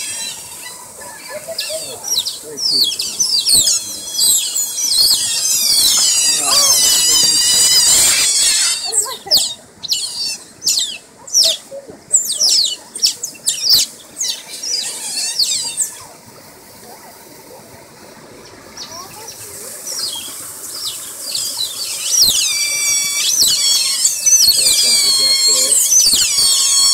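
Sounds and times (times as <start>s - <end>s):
otters squealing and chirping: 0.0s - 16.1s, 18.8s - 26.9s.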